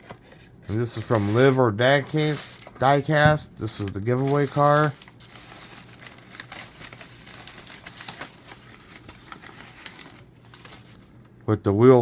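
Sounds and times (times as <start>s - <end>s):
packaging rustling: 0.0s - 11.3s.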